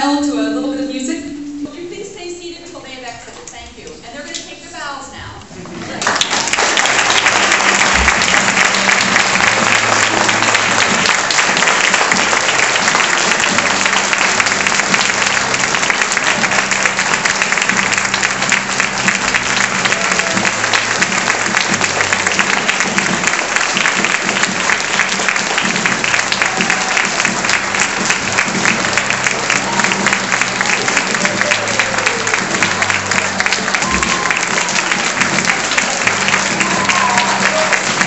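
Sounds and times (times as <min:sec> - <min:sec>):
audience applauding: 0:05.7 - 0:38.0.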